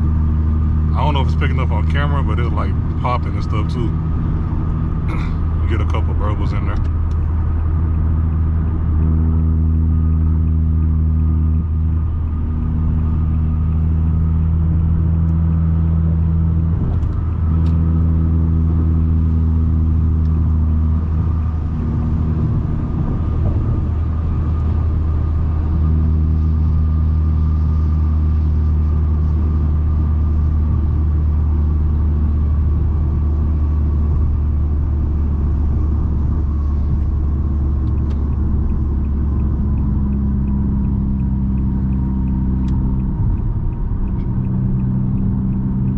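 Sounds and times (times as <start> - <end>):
car exhaust droning: 0.0 - 45.9.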